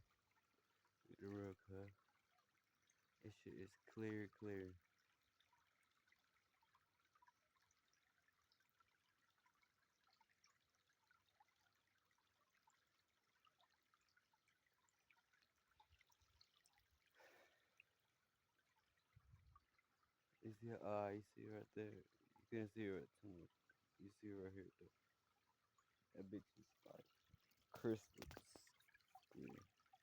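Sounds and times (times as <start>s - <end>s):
faint stream trickling: 0.0s - 30.0s.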